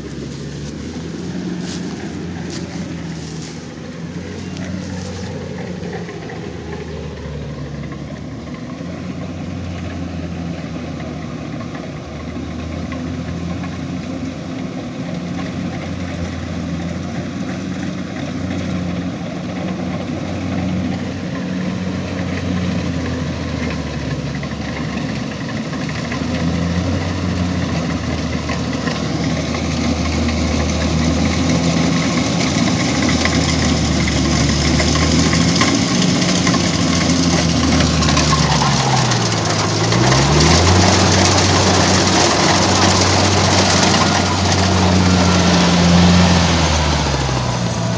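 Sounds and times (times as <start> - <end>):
combine harvester engine running: 0.0 - 47.9.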